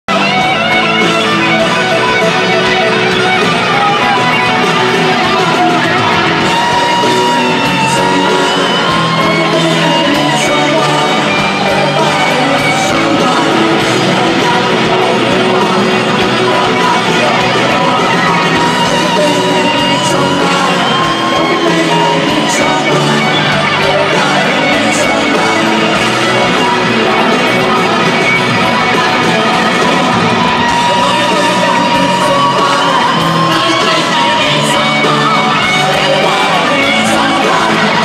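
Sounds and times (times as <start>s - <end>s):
crowd singing and shouting: 0.0s - 38.0s
live rock band playing: 0.1s - 38.0s.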